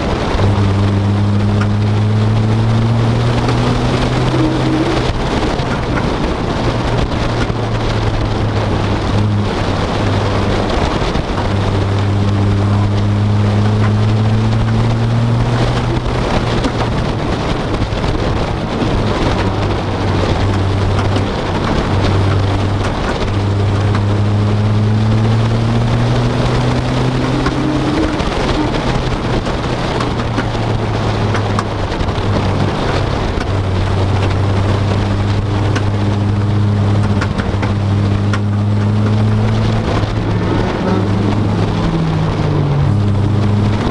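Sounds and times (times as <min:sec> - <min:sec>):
car engine accelerating: 0:00.0 - 0:43.9
road noise inside car: 0:00.0 - 0:43.9.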